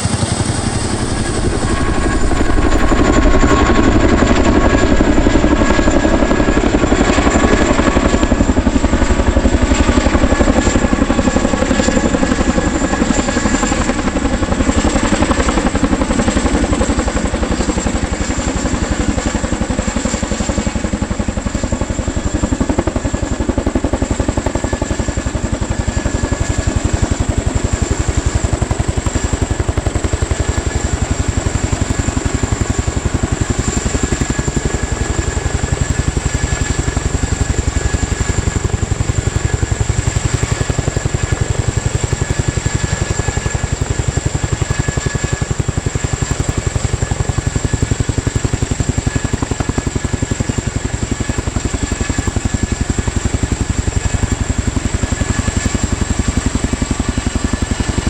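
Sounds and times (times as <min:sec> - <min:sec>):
turbine whine: 0:00.0 - 0:16.8, 0:20.0 - 0:58.0
helicopter rotor beat: 0:00.0 - 0:58.0.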